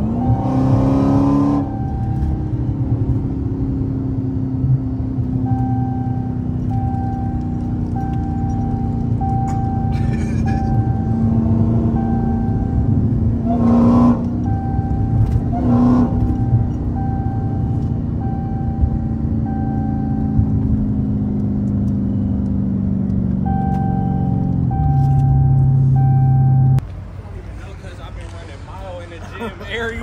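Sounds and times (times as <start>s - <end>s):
car engine revving and droning: 0.0s - 26.8s.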